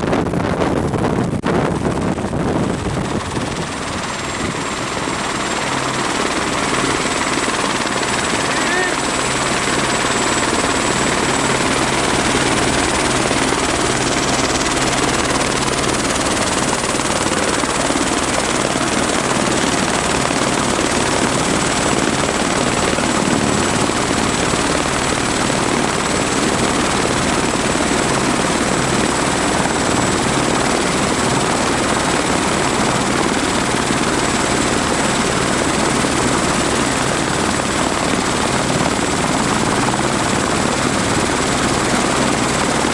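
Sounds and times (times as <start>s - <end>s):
helicopter rotor and engine rush: 0.0s - 42.9s
high turbine whine: 0.0s - 42.9s.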